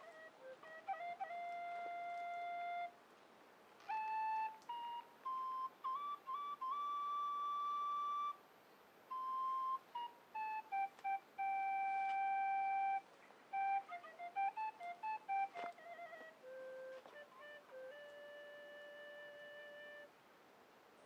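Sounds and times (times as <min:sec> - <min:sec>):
solo flute melody: 0:00.0 - 0:03.0, 0:03.8 - 0:20.2.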